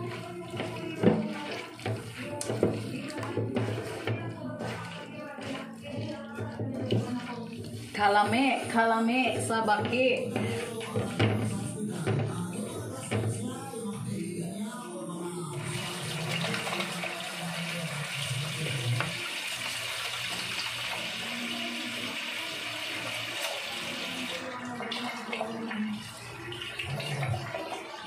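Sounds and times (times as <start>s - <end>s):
water running from a tap: 0.0s - 13.3s, 15.5s - 28.0s.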